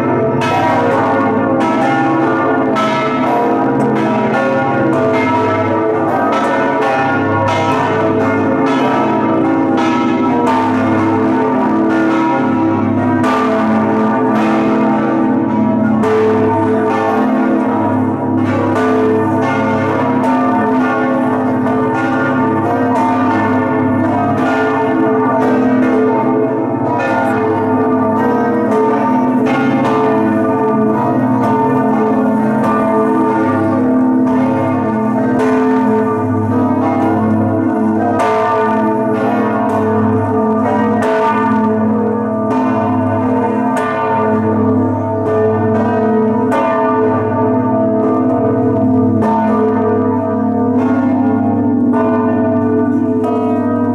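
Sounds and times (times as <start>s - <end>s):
church bells pealing: 0.0s - 53.9s.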